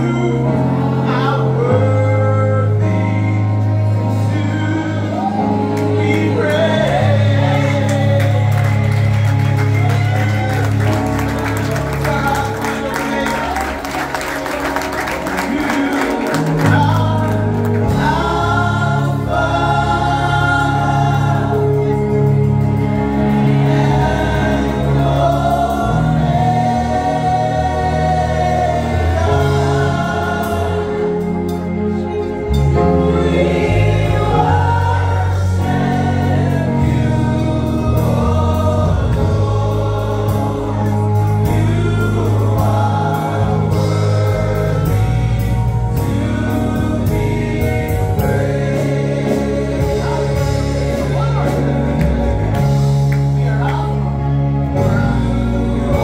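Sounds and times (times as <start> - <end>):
gospel choir singing in harmony: 0.0 - 56.0
instrumental backing with bass: 0.0 - 56.0.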